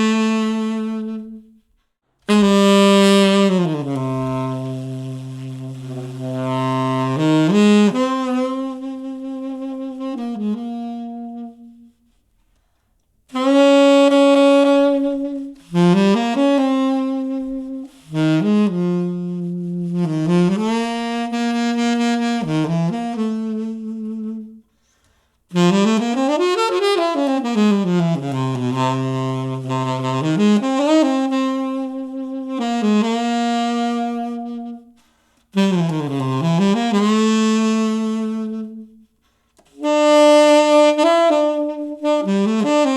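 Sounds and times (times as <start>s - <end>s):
jazz saxophone melody: 0.0s - 12.6s, 13.2s - 42.9s.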